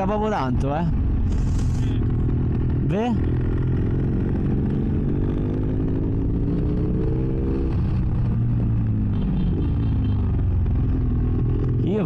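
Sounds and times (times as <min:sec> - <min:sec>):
motorcycle engine revving: 0:00.9 - 0:12.0.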